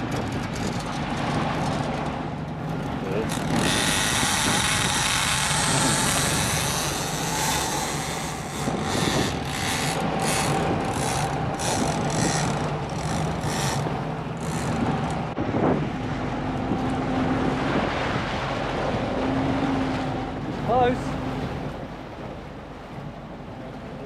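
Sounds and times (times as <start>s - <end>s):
boat engine running: 0.0s - 24.0s
water splashing from wake: 0.0s - 24.0s
wind: 0.0s - 24.0s.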